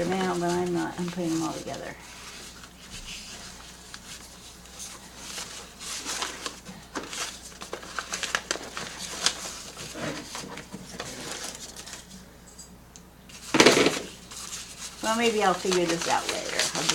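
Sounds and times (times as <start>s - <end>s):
cards and packaging rustling: 0.0s - 12.1s, 13.3s - 16.9s.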